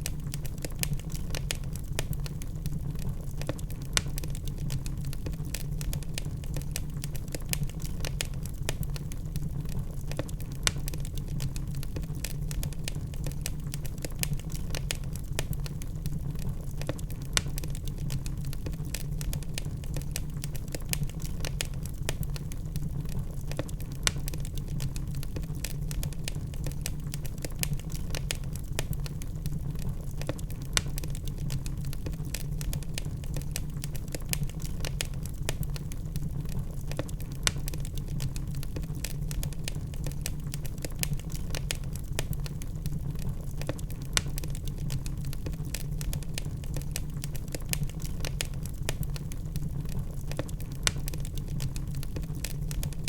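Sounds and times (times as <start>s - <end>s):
low rumble of fire: 0.0s - 53.0s
small crackles of fire: 0.0s - 53.0s
logs popping: 0.2s - 53.0s.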